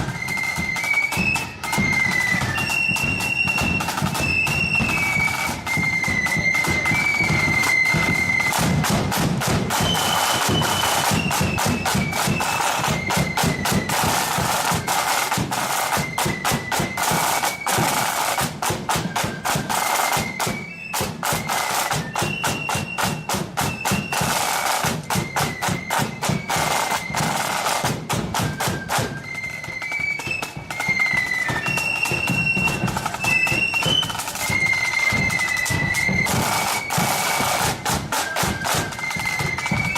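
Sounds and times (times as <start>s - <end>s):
flutes playing melody: 0.0s - 39.9s
rattling snare drums: 0.0s - 39.9s.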